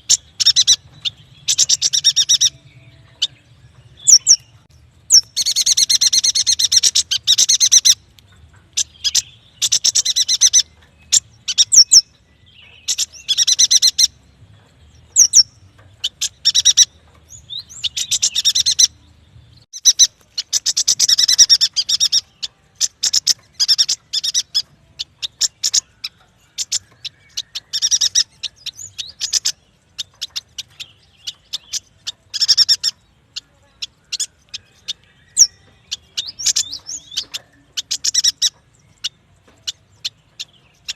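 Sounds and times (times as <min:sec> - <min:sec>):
bird chirping rapidly: 0:00.0 - 0:08.1, 0:08.7 - 0:14.3, 0:14.9 - 0:19.0, 0:19.6 - 0:40.9.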